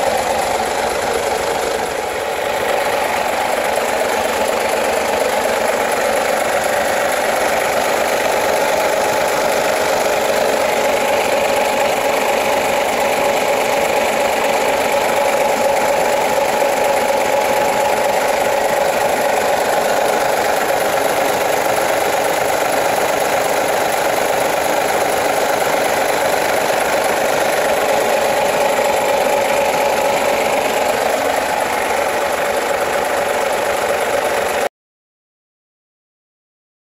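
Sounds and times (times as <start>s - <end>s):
truck diesel engine running: 0.0s - 34.7s.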